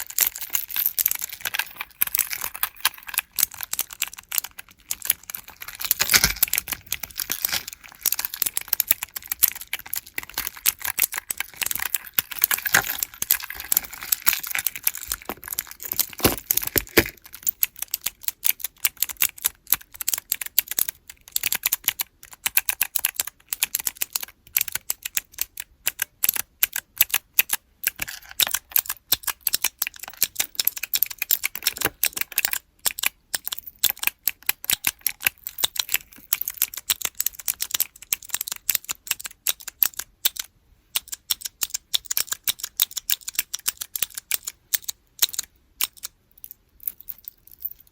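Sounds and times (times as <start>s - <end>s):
mechanical keyboard switches clicking: 0.0s - 47.2s.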